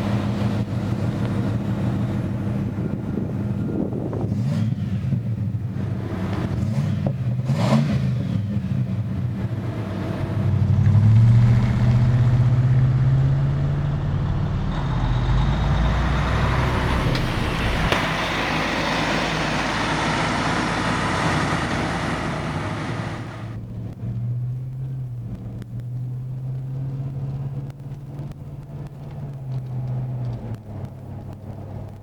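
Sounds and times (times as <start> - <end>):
engine accelerating: 0.0 - 32.0
road and wind noise: 0.0 - 32.0.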